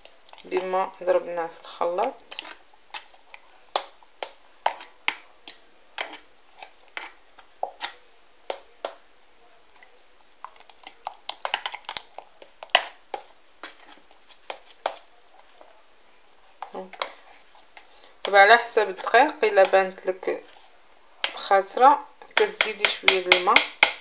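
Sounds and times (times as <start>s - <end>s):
batter stirred in blender jug: 0.0s - 15.8s, 16.4s - 21.5s.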